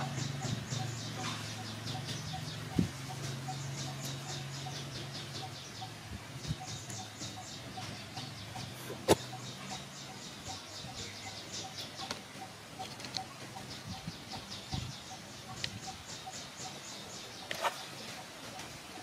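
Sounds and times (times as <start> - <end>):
rapid rhythmic high chirping: 0.0 - 19.0.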